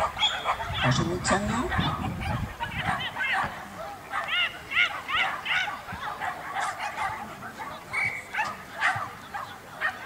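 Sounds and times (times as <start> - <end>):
dog barking: 0.0 - 10.0.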